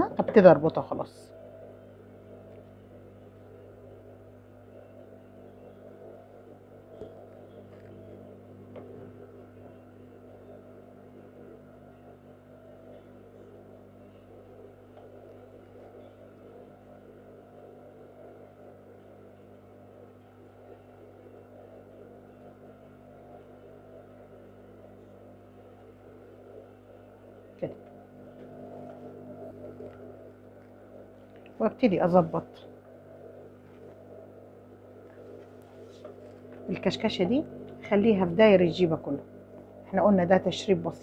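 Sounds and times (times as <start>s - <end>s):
low electrical hum: 0.0s - 41.0s.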